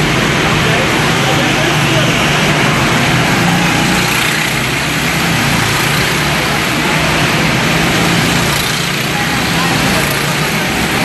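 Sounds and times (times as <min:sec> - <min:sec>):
go-kart engines droning: 0:00.0 - 0:11.0.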